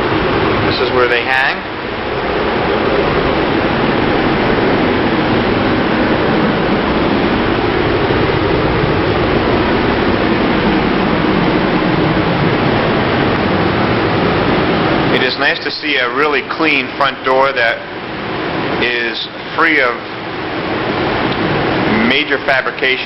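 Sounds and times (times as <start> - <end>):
ventilation air rushing: 0.0 - 23.0.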